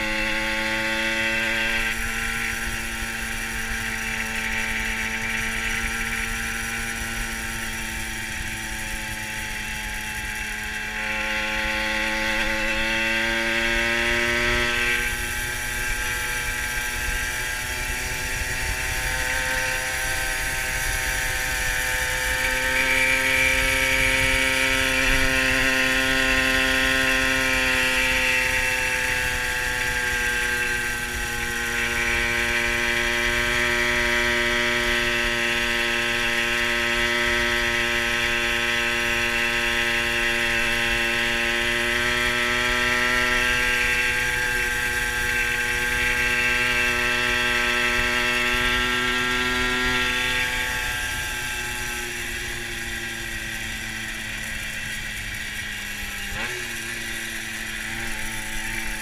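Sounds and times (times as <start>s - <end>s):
moped engine running: 0.0s - 59.0s.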